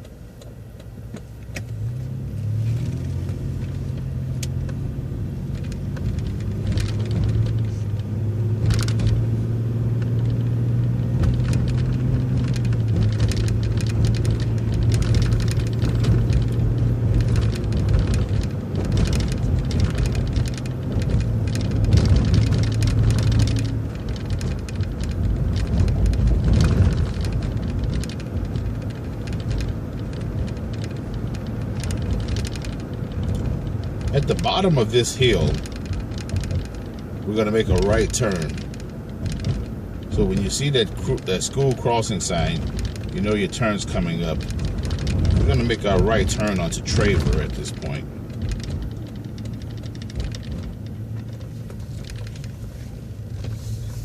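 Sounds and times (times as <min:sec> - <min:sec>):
bus engine drone: 0:00.0 - 0:54.0
short clicks and rattles: 0:05.5 - 0:53.6.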